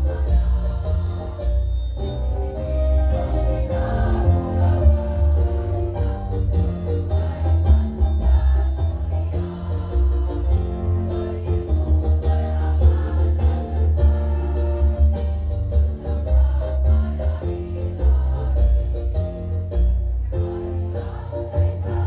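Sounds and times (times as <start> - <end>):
women's choir singing: 0.0 - 1.7, 3.1 - 15.2, 15.8 - 19.1, 20.3 - 22.0
backing music with bass line: 0.0 - 22.0.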